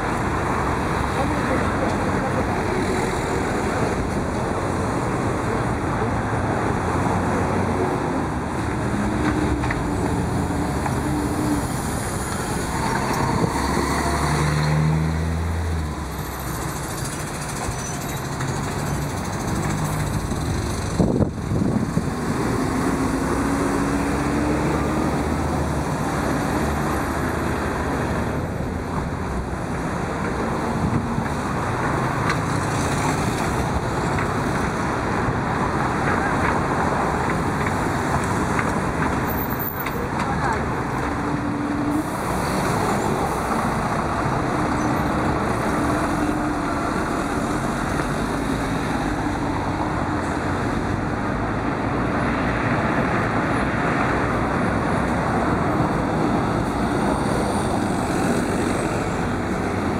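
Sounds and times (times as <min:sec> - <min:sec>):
traffic passing: 0:00.0 - 0:59.9.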